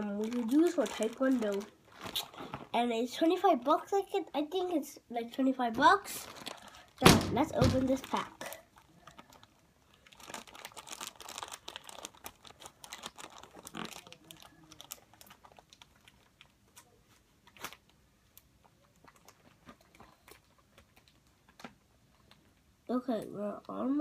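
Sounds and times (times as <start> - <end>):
packaging crinkling and tearing: 0.0 - 2.8, 5.8 - 22.5
crackles and clicks: 0.0 - 4.0, 5.9 - 24.0.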